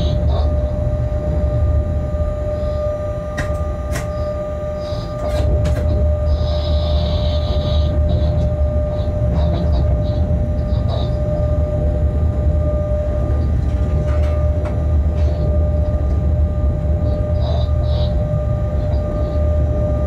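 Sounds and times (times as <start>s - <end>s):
locomotive rumble and whine: 0.0s - 20.0s.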